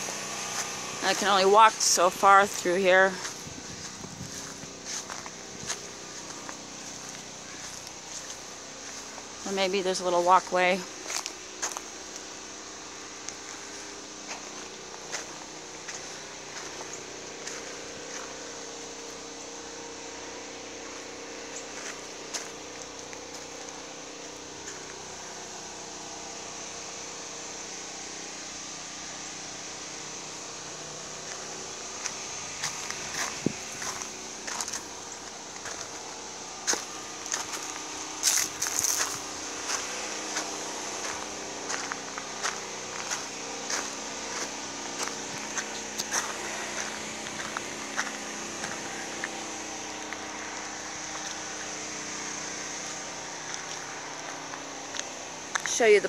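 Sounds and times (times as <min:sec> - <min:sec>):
footsteps on gravel: 0:00.0 - 0:12.6, 0:13.2 - 0:19.2, 0:20.8 - 0:25.4, 0:31.1 - 0:56.0
mechanical hum: 0:00.0 - 0:56.0
outdoor background noise: 0:00.0 - 0:56.0.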